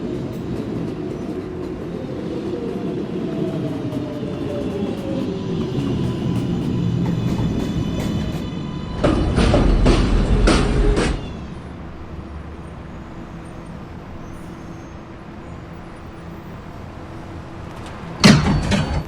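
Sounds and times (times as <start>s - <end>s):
subway train running noise: 0.0s - 19.0s.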